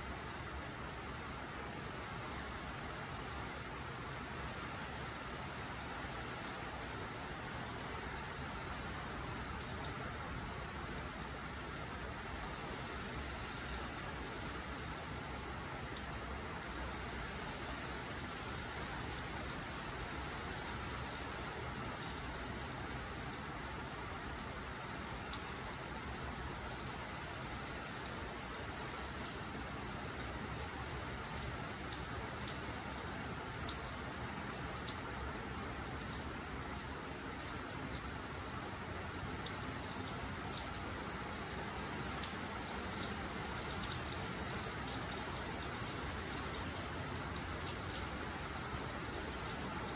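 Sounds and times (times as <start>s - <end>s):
rain on wet pavement: 0.0s - 49.9s.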